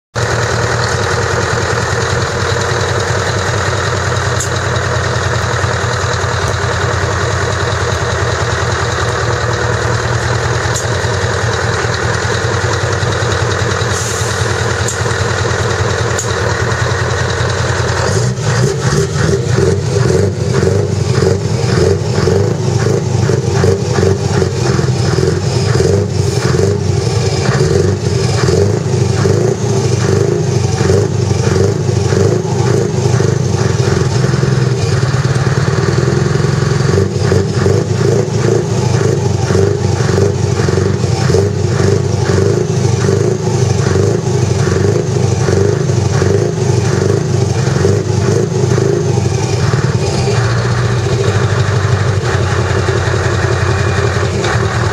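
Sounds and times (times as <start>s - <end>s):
diesel truck engine running: 0.1s - 54.9s.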